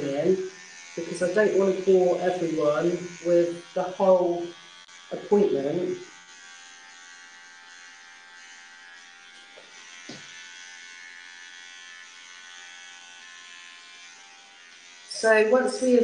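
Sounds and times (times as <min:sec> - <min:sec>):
electric hair trimmer buzzing: 0:00.0 - 0:16.0.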